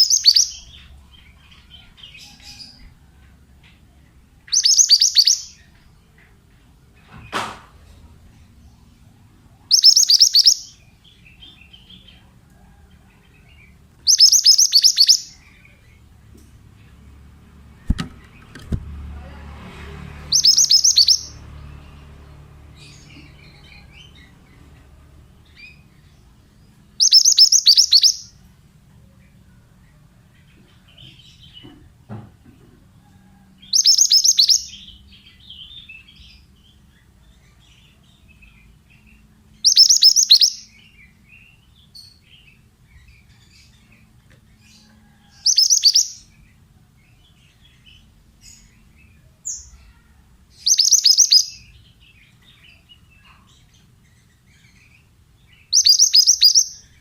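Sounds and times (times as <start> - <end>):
bird song phrase: 0.0 - 17.1, 17.8 - 31.8, 33.3 - 44.2, 44.8 - 57.0
soft bird chirps: 0.0 - 17.1, 20.2 - 31.8, 33.1 - 57.0.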